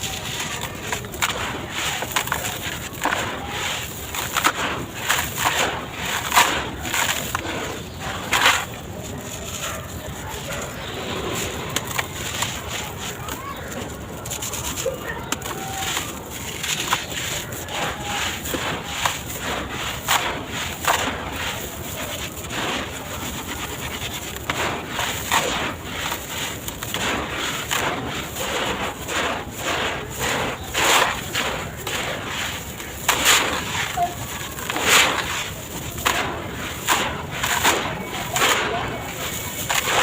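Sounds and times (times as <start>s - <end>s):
cement blocks crumbling: 0.0s - 40.0s.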